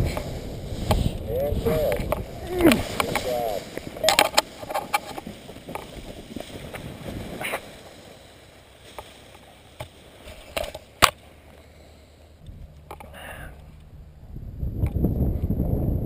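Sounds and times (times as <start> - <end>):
paraglider lines rustling: 0.0 - 16.0.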